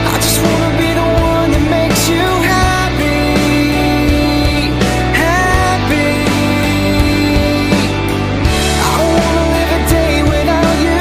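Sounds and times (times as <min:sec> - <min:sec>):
pop song background music: 0:00.0 - 0:11.0.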